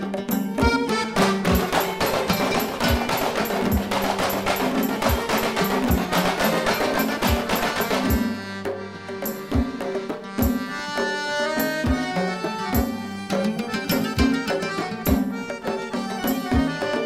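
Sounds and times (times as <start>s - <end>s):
hand drums fast rhythm: 0.0s - 17.0s
melody in held notes: 0.0s - 17.0s.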